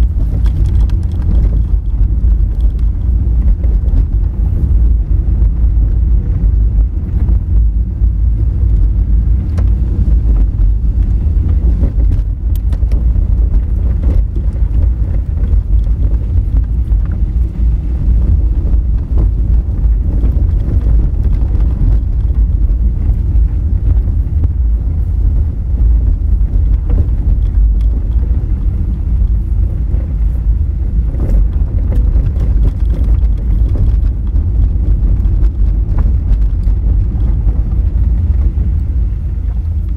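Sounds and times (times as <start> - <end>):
car tyres rumbling on gravel: 0.0 - 39.9.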